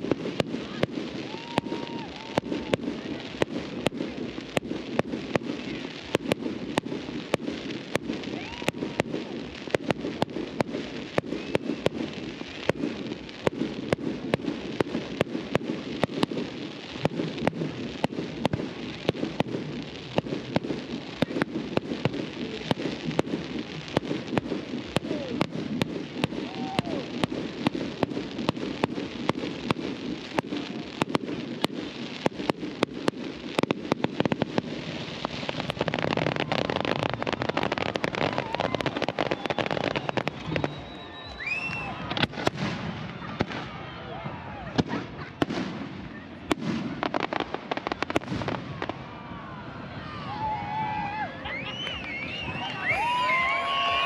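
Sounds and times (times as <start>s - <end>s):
crowd chatter: 0.0s - 54.0s
fireworks bangs: 0.0s - 54.0s.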